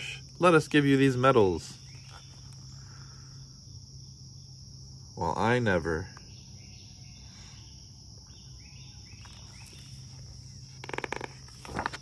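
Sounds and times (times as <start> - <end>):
insects chirring: 0.0 - 12.0
rapid insect rattle: 0.0 - 12.0.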